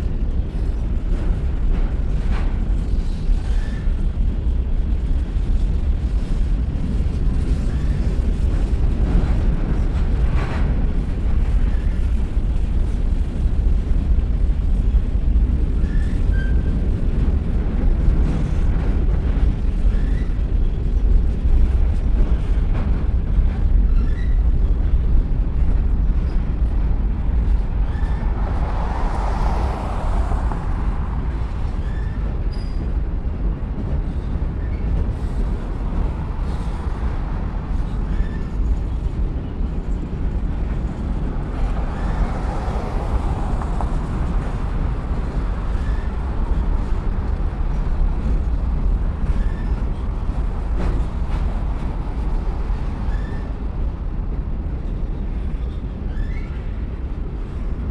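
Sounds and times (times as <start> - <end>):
train cars rumbling over bridge: 0.0 - 57.9.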